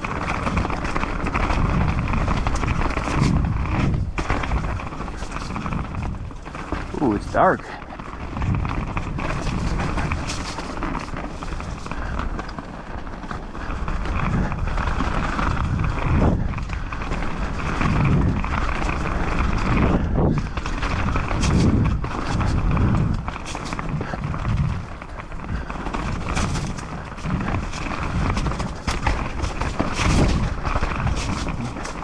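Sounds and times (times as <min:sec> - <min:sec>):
wind on microphone: 0:00.0 - 0:12.4, 0:13.7 - 0:32.0
bike rattling and clattering: 0:00.0 - 0:32.0
bike tyres over dirt and roots: 0:00.0 - 0:32.0.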